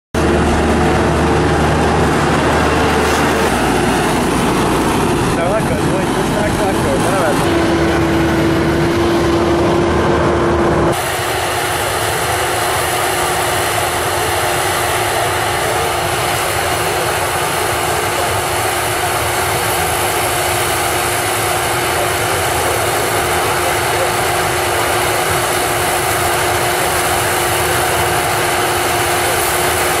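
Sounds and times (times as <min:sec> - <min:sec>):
harvester engine droning: 0:00.2 - 0:30.0.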